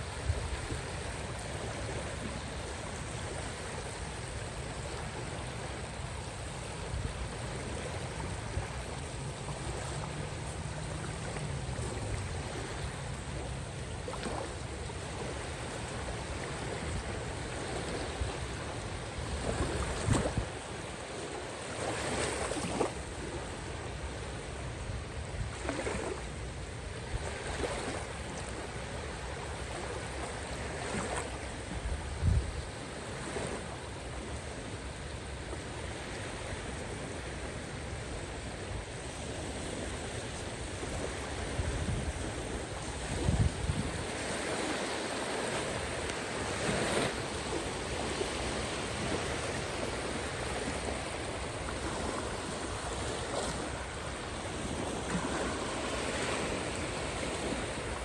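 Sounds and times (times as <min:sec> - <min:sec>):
waves washing onto shore: 0:00.0 - 0:58.0.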